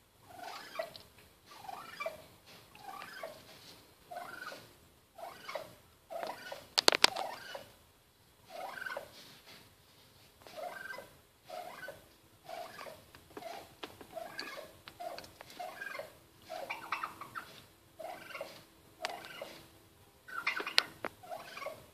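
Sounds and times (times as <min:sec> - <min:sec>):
turkey purring and clucking: 0:00.2 - 0:07.8, 0:08.4 - 0:09.2, 0:10.4 - 0:21.9.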